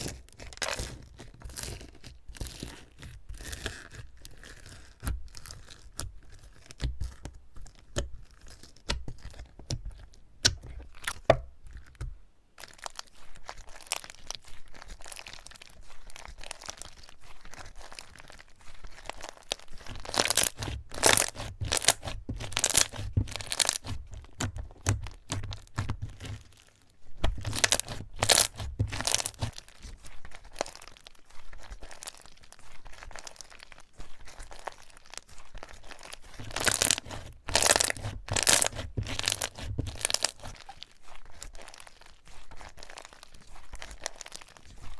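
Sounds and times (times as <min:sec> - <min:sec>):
slime crackling and popping: 0:00.0 - 0:44.9.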